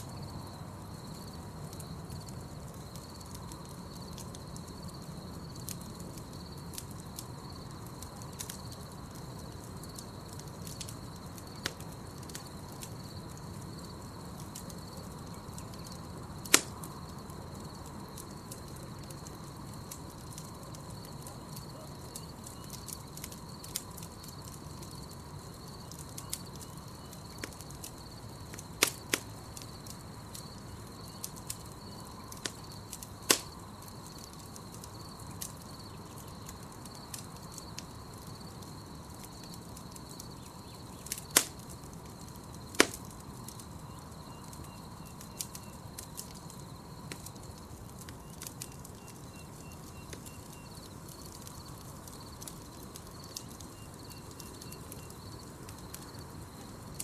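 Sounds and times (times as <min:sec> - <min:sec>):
campfire crackling and popping: 0:00.0 - 0:57.0
night insects chirring: 0:00.0 - 0:57.0.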